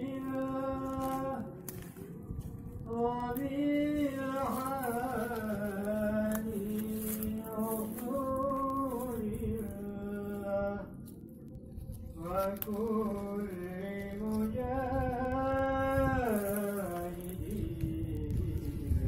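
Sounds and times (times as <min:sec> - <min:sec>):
person singing slow sliding melody: 0:00.0 - 0:19.0.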